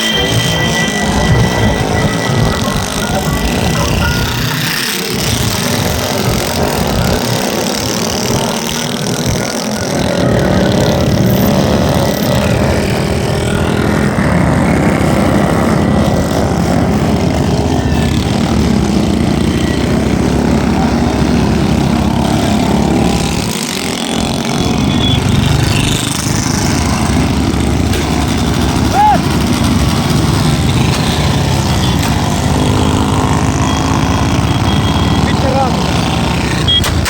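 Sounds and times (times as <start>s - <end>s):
vehicle engines running loudly: 0.0s - 37.0s.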